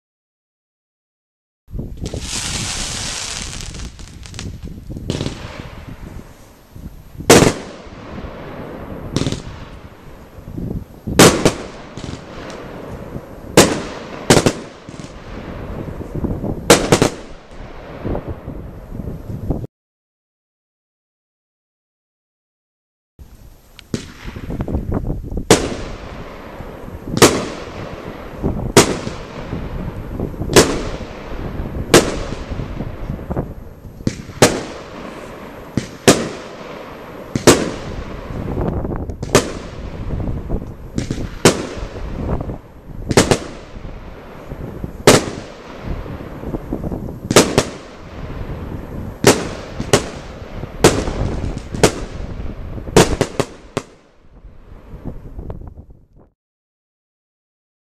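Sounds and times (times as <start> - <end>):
rumbling firework crackle: 1.7 - 19.7, 23.2 - 56.3
firework bangs: 2.0 - 6.5, 7.2 - 18.7, 23.9 - 55.5.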